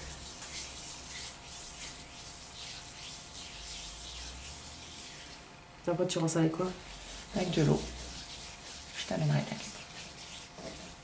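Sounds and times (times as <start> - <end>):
hands rubbing scrub on skin: 0.0 - 5.4, 6.8 - 11.0.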